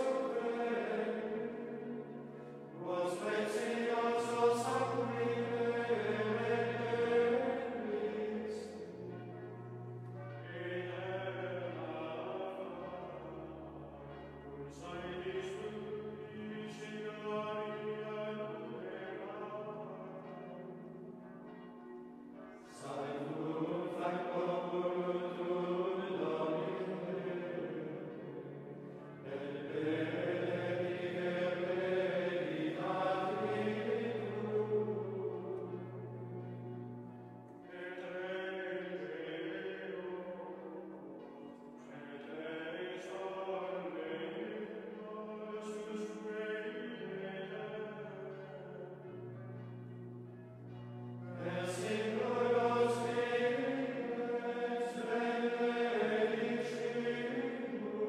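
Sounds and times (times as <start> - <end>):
male choir chanting: 0.0 - 20.6, 22.7 - 36.8, 37.6 - 41.0, 41.9 - 49.4, 51.1 - 58.0.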